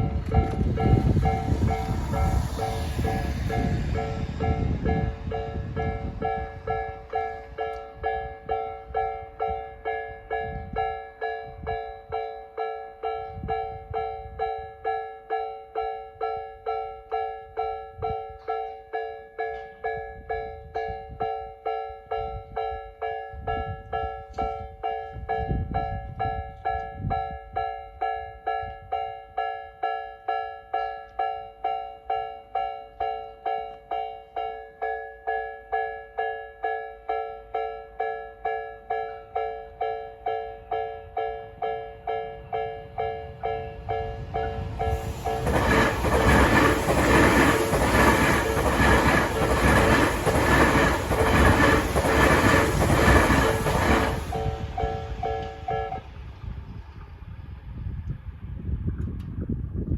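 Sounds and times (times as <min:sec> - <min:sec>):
level crossing warning bell: 0:00.0 - 0:56.1
train rumbling: 0:00.0 - 0:59.9.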